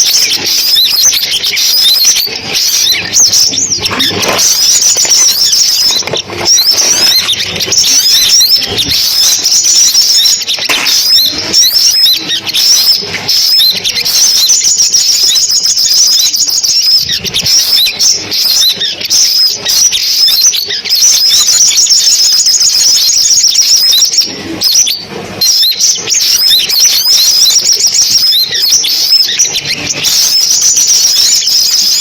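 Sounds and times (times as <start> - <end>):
birds chirping and twittering: 0.0 - 32.0.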